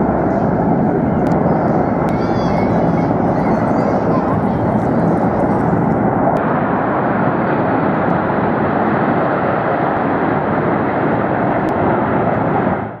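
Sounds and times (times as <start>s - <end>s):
jets roaring past: 0.0s - 13.0s.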